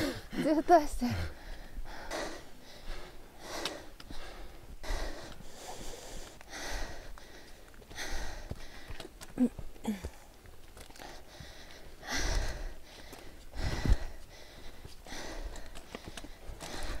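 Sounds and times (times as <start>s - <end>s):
person breathing hard: 1.0s - 10.3s, 10.9s - 17.0s.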